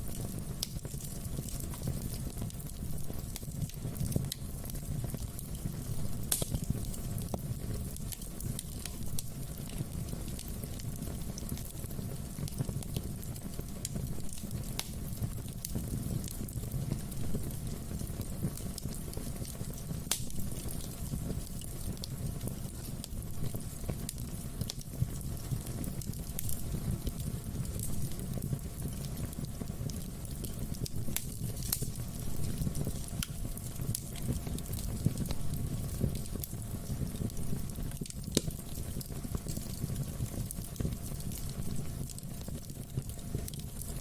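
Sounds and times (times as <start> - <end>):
flames rumbling in fireplace: 0.0 - 44.0
wood fire crackles and pops: 0.0 - 44.0.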